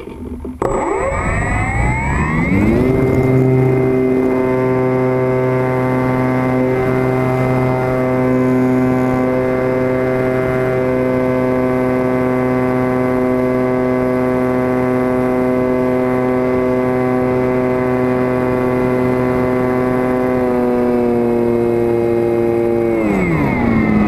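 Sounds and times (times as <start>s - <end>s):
electric motor and propeller whine: 0.0s - 24.0s.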